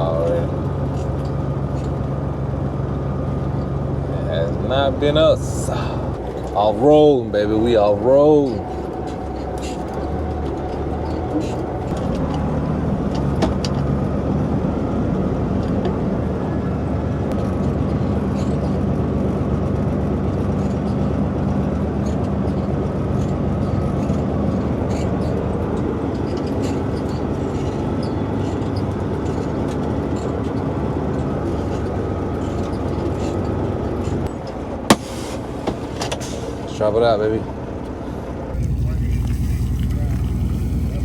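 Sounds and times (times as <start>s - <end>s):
truck diesel engine running: 0.0s - 41.0s
truck rattles and clicks: 0.0s - 41.0s.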